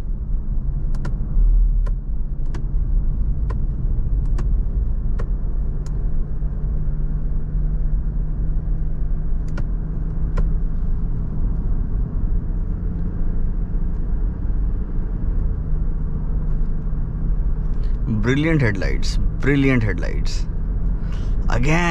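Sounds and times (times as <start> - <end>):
engine and tyres rumbling: 0.0 - 21.9.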